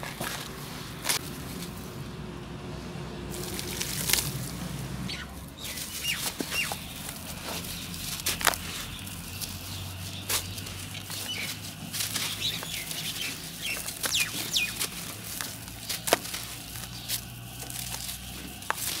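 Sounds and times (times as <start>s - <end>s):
hands crumbling dry dirt: 0.0s - 2.0s, 3.3s - 19.0s
grit pattering onto soil: 0.0s - 2.1s, 3.3s - 19.0s
dirt lumps crunching: 0.0s - 19.0s.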